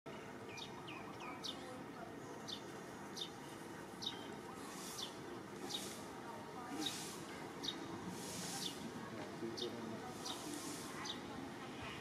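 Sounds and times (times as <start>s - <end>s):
outdoor background noise: 0.1s - 12.0s.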